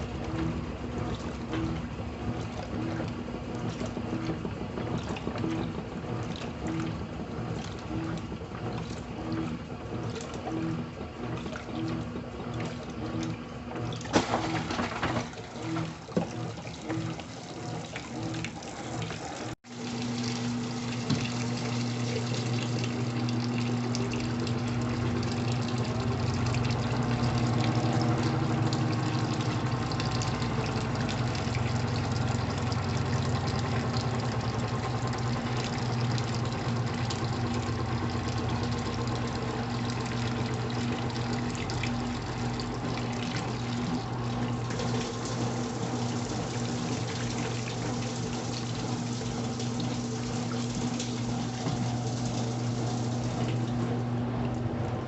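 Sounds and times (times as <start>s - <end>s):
low electric hum: 0.0s - 55.0s
water moving through washing machine: 0.0s - 55.0s.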